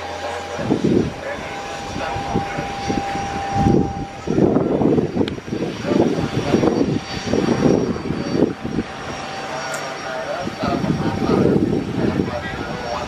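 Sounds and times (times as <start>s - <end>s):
jet engines pulsing rumble: 0.0s - 13.0s.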